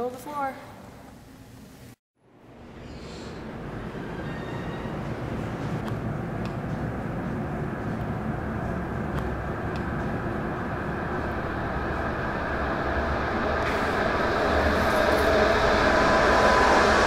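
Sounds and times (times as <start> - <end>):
rushing rumbling noise: 2.2 - 17.0.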